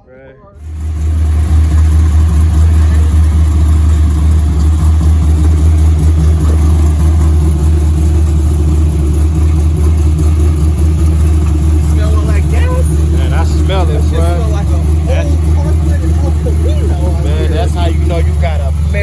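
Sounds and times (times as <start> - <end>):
car engine idling loudly: 0.6 - 19.0.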